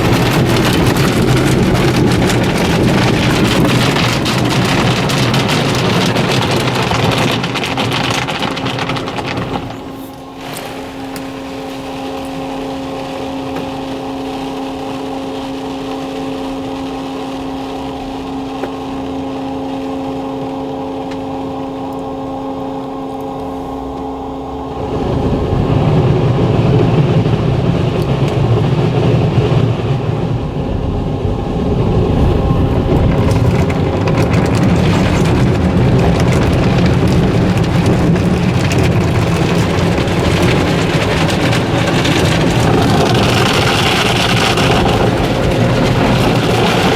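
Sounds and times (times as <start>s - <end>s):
car wash equipment rushing: 0.0s - 46.9s
car wash machine hum: 0.0s - 46.9s.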